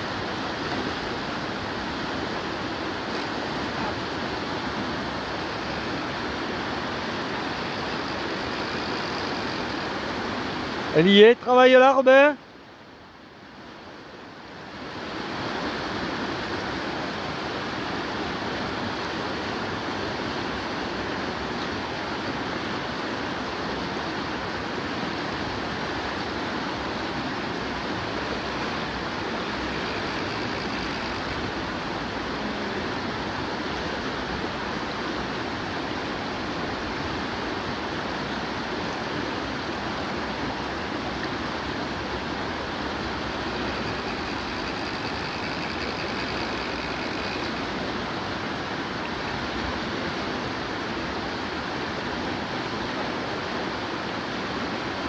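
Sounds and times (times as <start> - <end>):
river rapids roaring over rocks: 0.0 - 12.3, 13.4 - 55.0.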